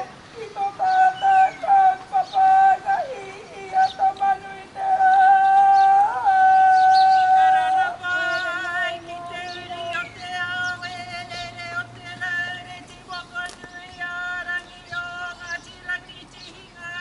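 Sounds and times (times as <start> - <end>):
women's high ceremonial calls: 0.0 - 17.0.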